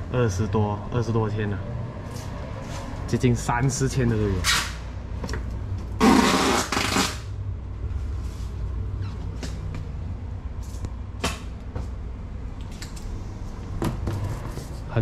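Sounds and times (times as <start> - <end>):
low hum of indoor shop: 0.0 - 15.0.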